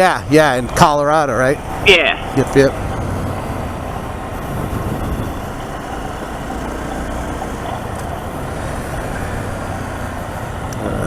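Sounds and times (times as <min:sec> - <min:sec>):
road rumble: 0:00.0 - 0:11.0
wind: 0:00.0 - 0:11.0.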